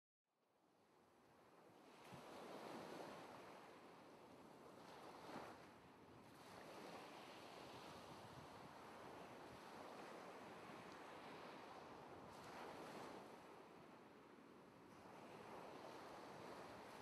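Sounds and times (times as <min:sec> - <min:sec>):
faint ocean surf: 0:01.3 - 0:17.0.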